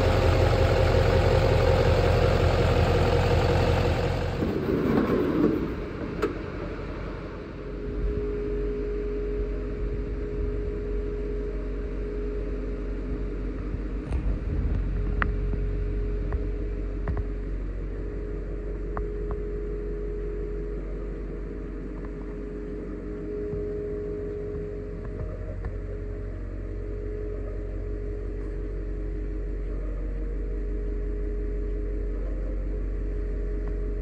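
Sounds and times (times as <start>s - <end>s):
constant mid-pitched tone: 0.0s - 34.0s
low mechanical hum: 0.0s - 34.0s.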